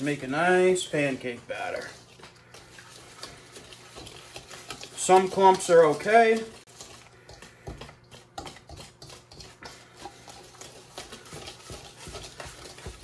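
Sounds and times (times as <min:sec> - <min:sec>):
whisk tapping metal bowl: 0:00.0 - 0:13.0.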